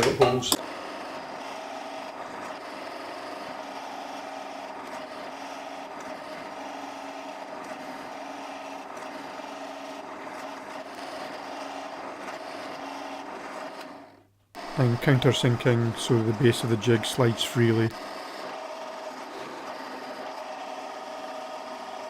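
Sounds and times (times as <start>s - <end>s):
electric drill boring into wood: 0.0s - 22.0s.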